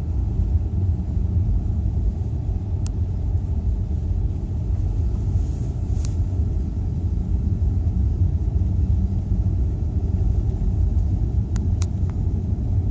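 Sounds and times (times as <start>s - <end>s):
car road and engine rumble: 0.0s - 12.9s.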